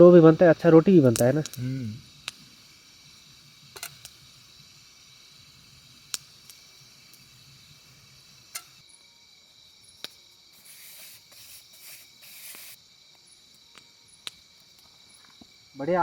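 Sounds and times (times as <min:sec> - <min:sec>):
campfire crackling: 0:00.0 - 0:16.0
crickets chirring: 0:00.0 - 0:16.0
rustling hiss: 0:00.0 - 0:16.0.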